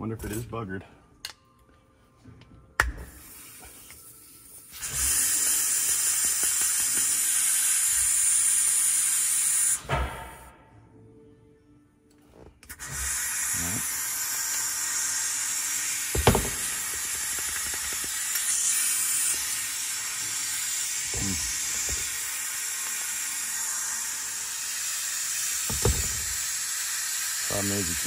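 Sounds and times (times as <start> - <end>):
compressed air hissing: 3.1 - 10.4, 12.7 - 28.0.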